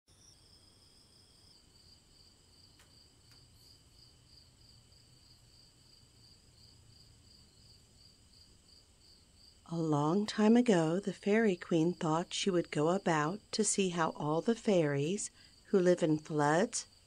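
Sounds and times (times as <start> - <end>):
crickets chirping: 0.1 - 17.0.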